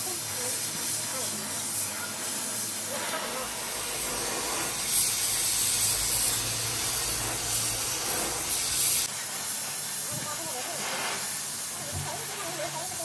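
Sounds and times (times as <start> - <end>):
welding torch hissing: 0.0 - 13.0.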